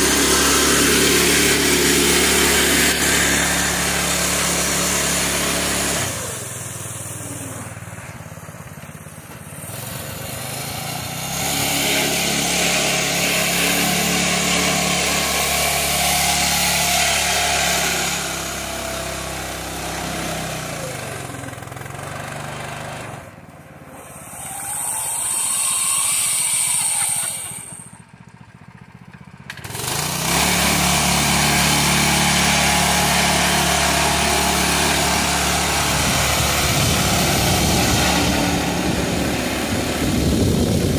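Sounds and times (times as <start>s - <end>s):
small engine running: 0.0s - 40.9s
tractor driving through water: 0.0s - 40.9s.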